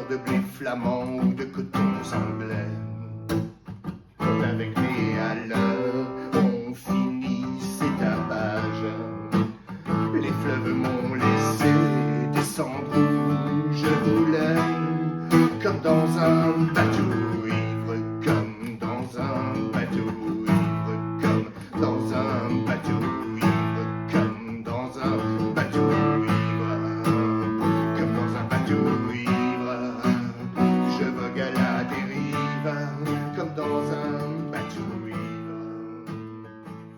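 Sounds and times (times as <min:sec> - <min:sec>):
acoustic guitar chords: 0:00.0 - 0:36.9.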